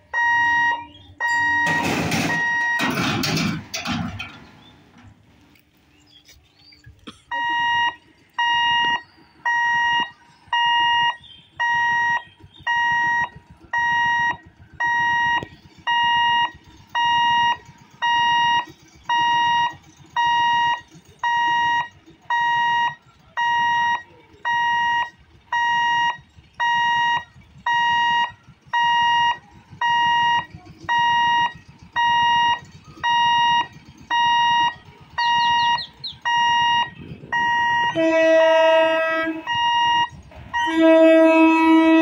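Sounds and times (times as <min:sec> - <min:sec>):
level crossing warning beeps: 0:00.0 - 0:05.1, 0:07.3 - 0:41.9.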